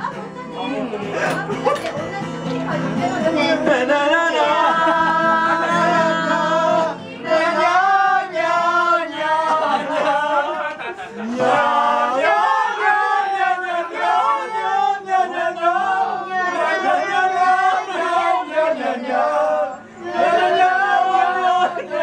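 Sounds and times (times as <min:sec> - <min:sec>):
strummed acoustic guitar: 0:00.0 - 0:22.0
men singing together: 0:03.0 - 0:22.0.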